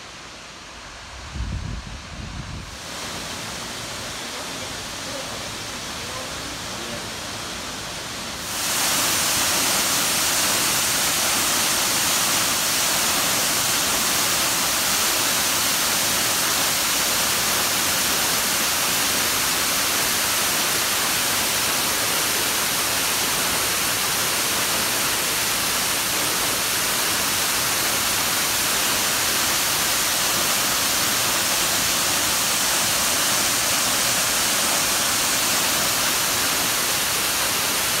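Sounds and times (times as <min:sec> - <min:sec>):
waterfall rushing: 0:00.0 - 0:01.2, 0:02.6 - 0:38.0.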